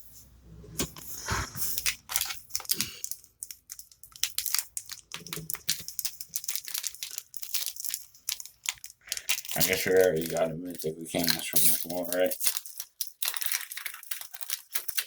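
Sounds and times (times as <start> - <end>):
foil wrapper crinkling: 1.6 - 15.0.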